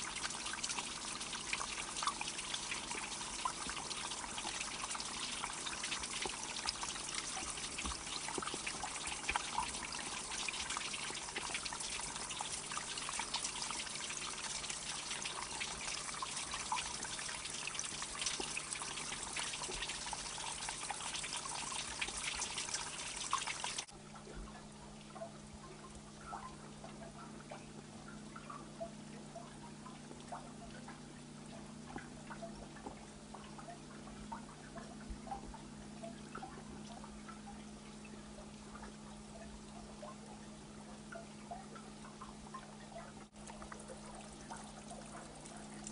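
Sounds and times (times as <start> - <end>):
faint water drips: 0.0 - 45.9
low steady hum: 0.0 - 45.9
water trickling and splashing: 0.0 - 45.9.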